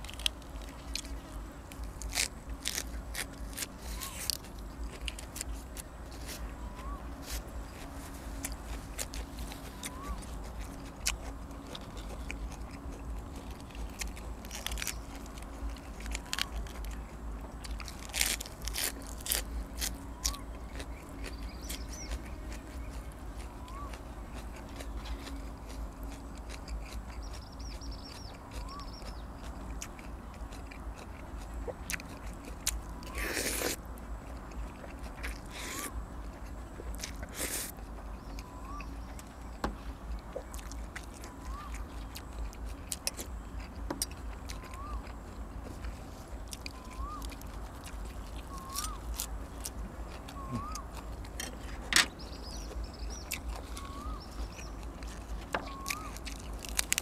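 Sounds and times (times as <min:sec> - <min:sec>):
person chewing food: 0:00.0 - 0:57.0
bird chirping: 0:03.4 - 0:18.0, 0:19.3 - 0:30.7, 0:37.0 - 0:57.0.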